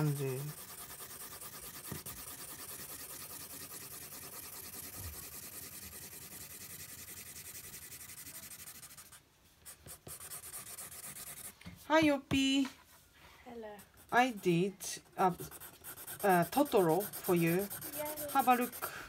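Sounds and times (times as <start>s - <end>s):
marker scratching on paper: 0.0s - 11.6s, 13.8s - 19.0s.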